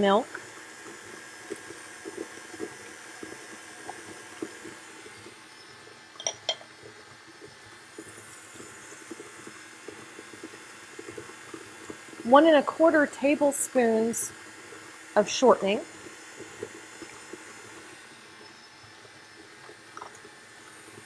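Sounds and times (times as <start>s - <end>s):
electric mixer churning batter: 0.0s - 21.0s.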